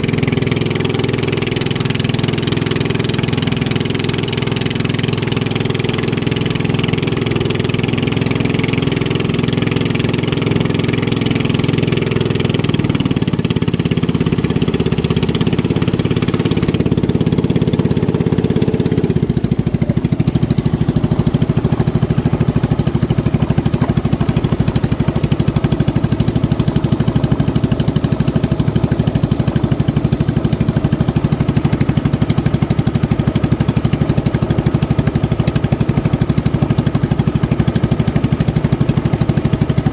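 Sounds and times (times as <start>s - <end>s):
racing boat engine running: 0.0s - 39.9s.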